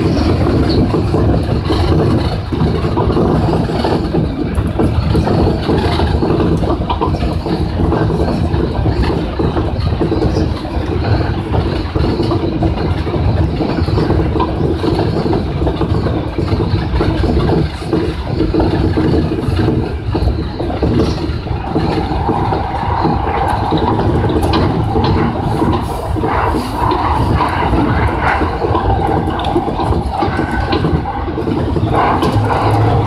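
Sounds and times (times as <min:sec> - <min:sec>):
high steady whine: 0:00.0 - 0:33.0
train wheels rumbling: 0:00.0 - 0:33.0.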